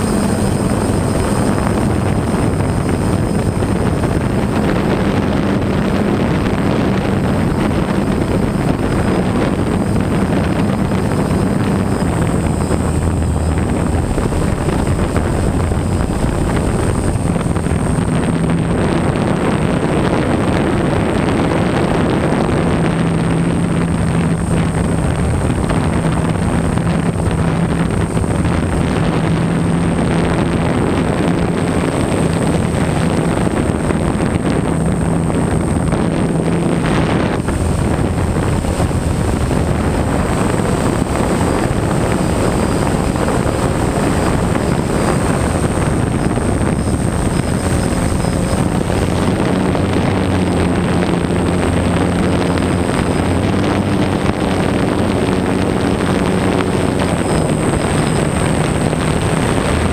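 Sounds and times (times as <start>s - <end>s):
drone motors buzzing: 0.0s - 59.9s
thin high whine: 0.0s - 59.9s
wind rushing: 0.0s - 59.9s.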